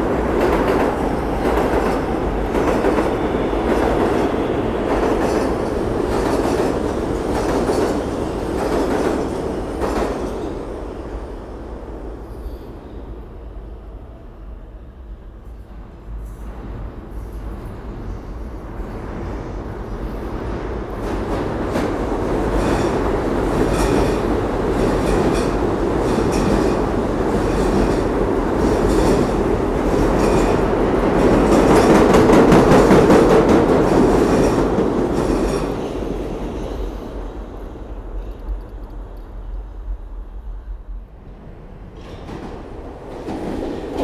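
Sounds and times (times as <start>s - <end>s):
subway train rumbling past: 0.0s - 44.0s.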